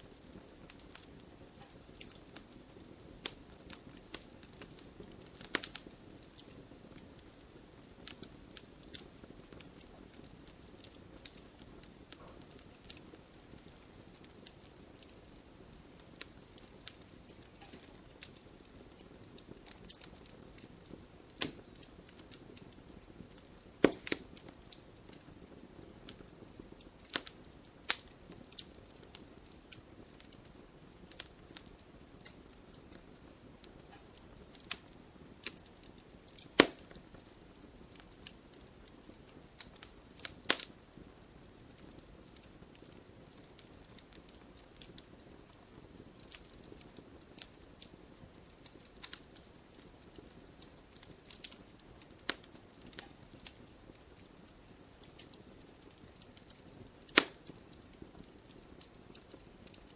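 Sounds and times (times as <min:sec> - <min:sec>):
soft steady hiss: 0:00.0 - 0:59.9
wood fire crackling and popping: 0:00.0 - 0:59.9.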